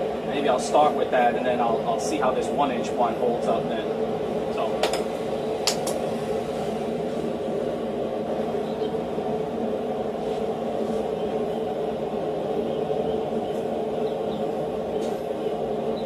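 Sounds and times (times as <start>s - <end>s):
whirring mechanical drone: 0.0s - 16.0s.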